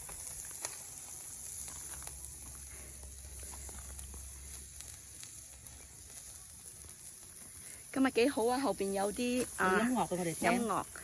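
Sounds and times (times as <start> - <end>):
faint steady hiss: 0.0 - 11.0
wood fire crackling and popping: 0.0 - 11.0.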